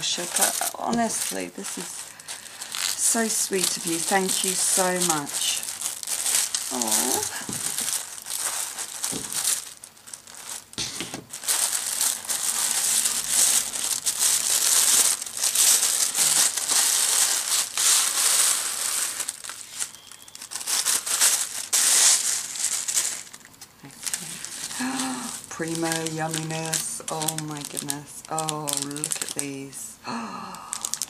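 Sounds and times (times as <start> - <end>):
tissue paper crinkling: 0.0 - 29.8, 30.4 - 31.0.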